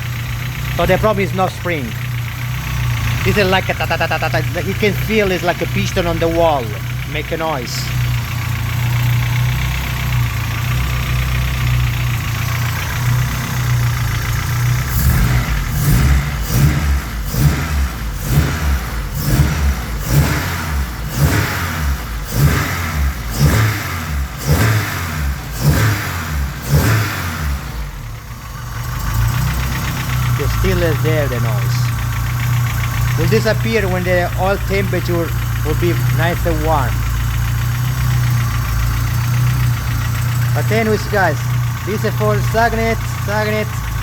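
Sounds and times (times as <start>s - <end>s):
engine running with rapid knock: 0.0s - 44.0s
engine surges: 0.0s - 44.0s.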